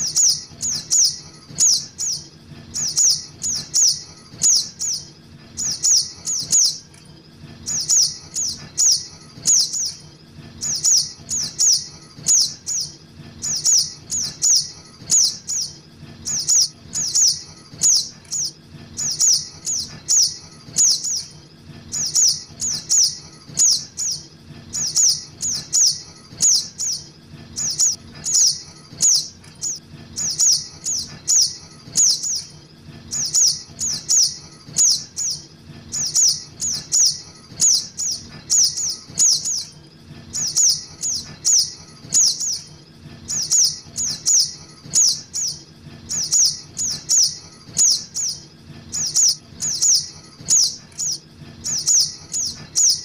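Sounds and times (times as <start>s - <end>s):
high bird chirps: 0.0s - 53.0s.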